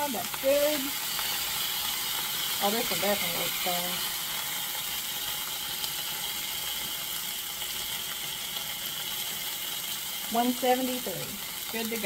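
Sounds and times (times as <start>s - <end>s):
steak sizzling in hot oil: 0.0s - 12.0s.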